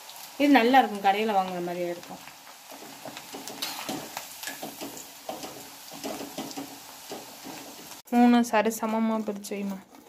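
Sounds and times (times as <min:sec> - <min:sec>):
deep-frying in oil sizzling: 0:00.0 - 0:10.0.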